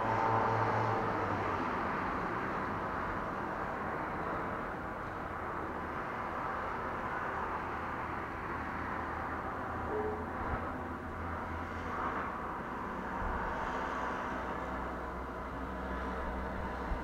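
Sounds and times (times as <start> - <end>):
passing vehicle engine hum: 0.0 - 17.0
steady traffic noise: 0.0 - 17.0.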